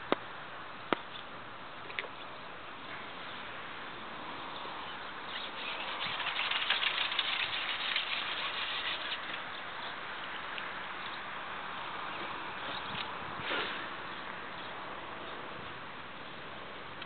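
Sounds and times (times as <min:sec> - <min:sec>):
faint outdoor hiss: 0:00.0 - 0:17.0
leaves rustling against microphone: 0:00.0 - 0:17.0.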